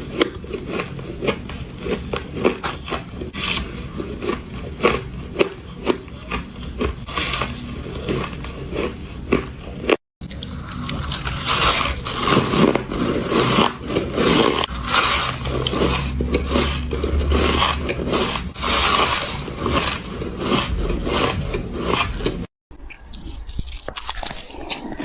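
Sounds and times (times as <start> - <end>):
ice being chewed: 0.0 - 22.5, 23.1 - 25.0.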